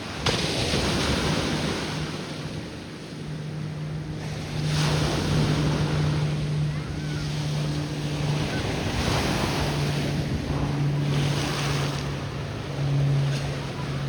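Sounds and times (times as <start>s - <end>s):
low engine hum: 0.0s - 14.0s
ocean surf washing in: 0.0s - 14.0s
wind buffeting microphone: 0.0s - 14.0s.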